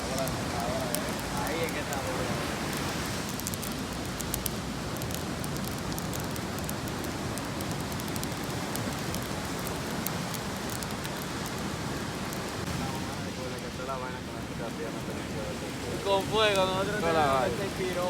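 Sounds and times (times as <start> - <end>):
bonfire crackling and popping: 0.0 - 18.0
steady rushing noise: 0.0 - 18.0.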